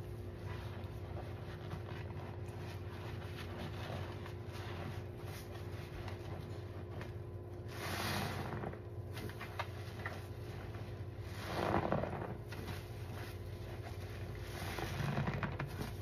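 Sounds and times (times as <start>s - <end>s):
sponge squishing in suds: 0.0s - 16.0s
steady low hum: 0.0s - 16.0s.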